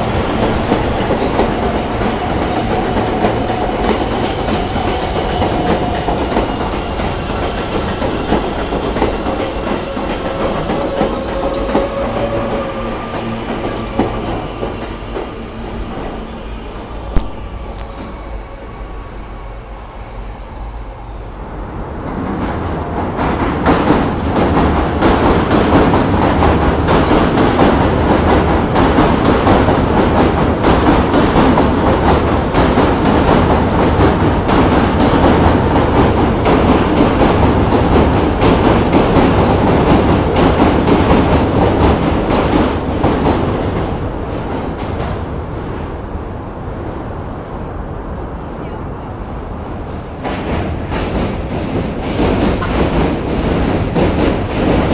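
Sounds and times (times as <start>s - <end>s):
subway train passing: 0.0s - 54.9s.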